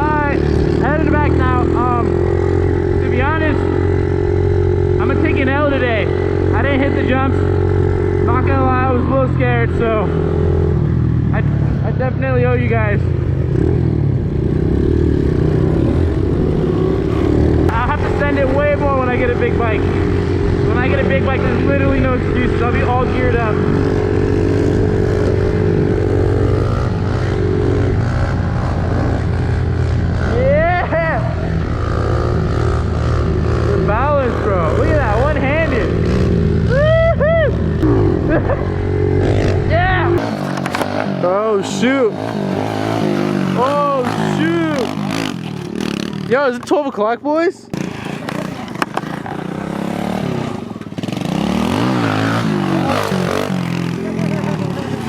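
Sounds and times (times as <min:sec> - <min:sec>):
motorbike engine revving: 0:00.0 - 0:46.7, 0:47.7 - 0:55.0.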